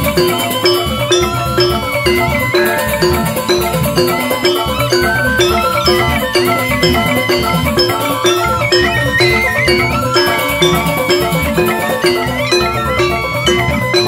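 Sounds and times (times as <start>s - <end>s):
bamboo xylophones playing: 0.0s - 14.0s
hand drums: 0.0s - 14.0s.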